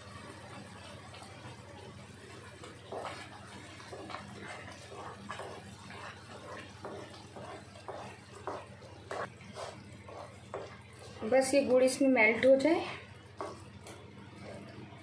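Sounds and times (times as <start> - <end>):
spatula squelching sticky mixture: 0.7 - 15.0.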